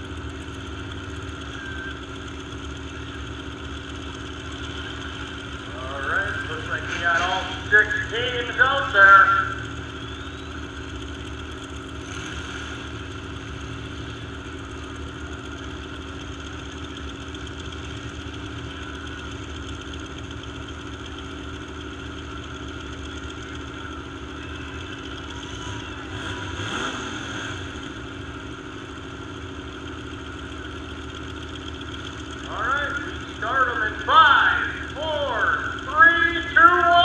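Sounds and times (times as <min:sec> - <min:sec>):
truck engines idling: 0:00.0 - 0:37.0.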